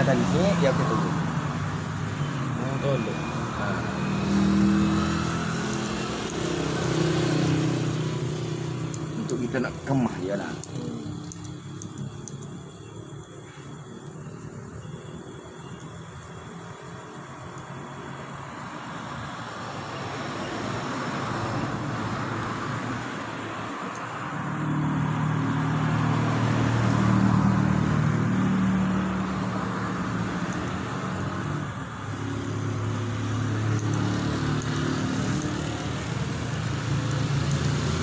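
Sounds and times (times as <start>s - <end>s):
rushing traffic noise: 0.0s - 38.0s
vehicle engine humming: 0.0s - 38.0s.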